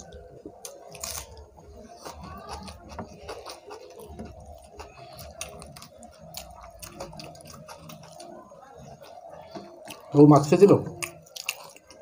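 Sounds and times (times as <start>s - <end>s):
chewing: 0.0s - 12.0s
fingers mixing rice on plates: 0.1s - 12.0s.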